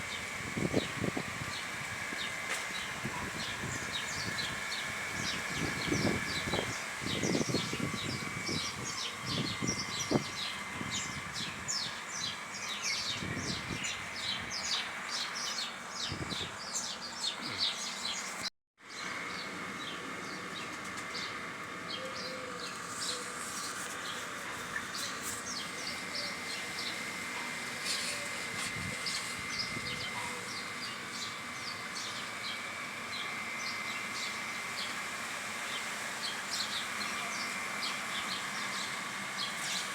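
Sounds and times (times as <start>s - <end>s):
steady high hum: 0.0s - 39.9s
small birds chirping: 0.1s - 39.9s.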